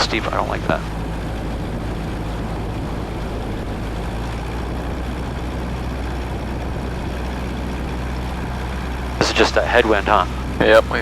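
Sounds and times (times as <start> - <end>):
plane engine and propeller droning: 0.0 - 11.0.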